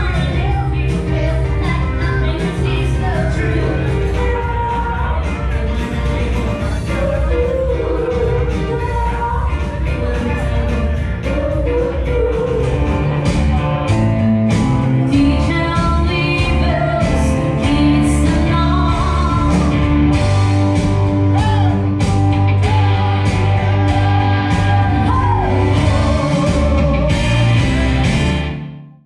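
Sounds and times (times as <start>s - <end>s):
person singing: 0.0s - 28.3s
drum kit: 0.0s - 28.6s
bass: 0.0s - 29.0s
electric guitar: 0.0s - 29.0s.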